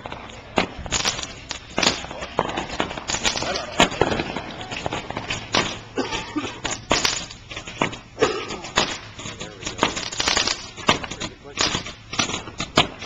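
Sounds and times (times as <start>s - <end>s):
fireworks popping and cracking: 0.0s - 13.0s.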